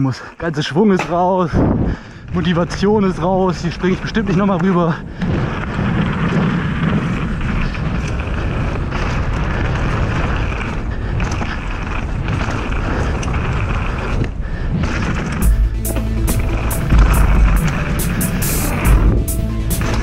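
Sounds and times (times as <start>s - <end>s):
bike tyres on dirt trail: 0.0s - 20.0s
wind buffeting microphone: 0.0s - 20.0s.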